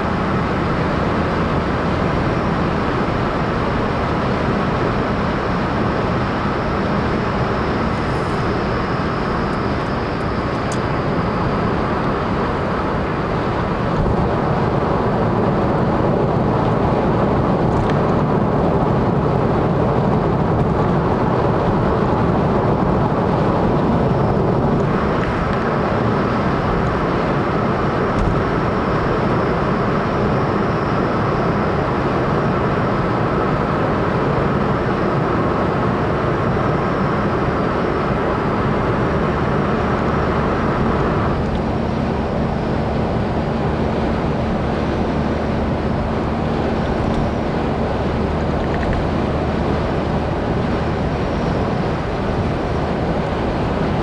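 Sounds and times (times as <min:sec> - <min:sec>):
car engine running: 0:00.0 - 0:54.0
tyres on asphalt: 0:00.0 - 0:54.0.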